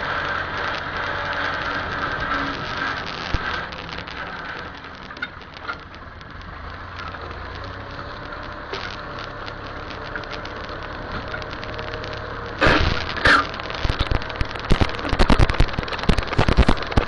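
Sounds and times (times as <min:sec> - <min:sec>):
irregular crackles and ticks: 0:00.0 - 0:17.0
tractor engine drone: 0:00.0 - 0:17.0.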